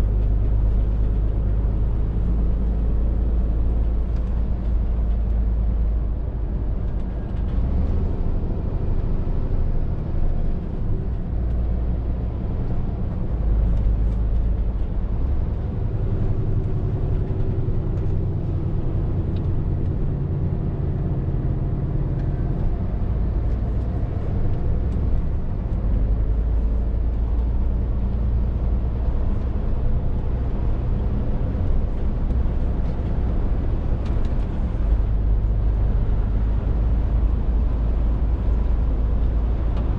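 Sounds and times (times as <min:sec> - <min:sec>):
lorry engine and tyres droning: 0:00.0 - 0:39.9.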